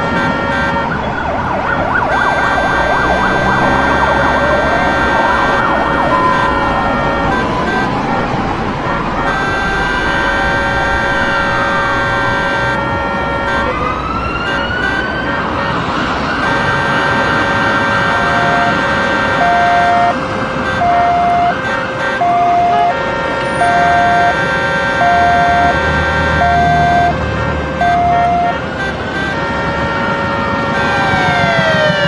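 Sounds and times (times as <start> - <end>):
horn tones: 0.0 - 32.0
traffic noise: 0.0 - 32.0
two-tone siren: 0.0 - 32.0
wailing siren: 0.0 - 32.0.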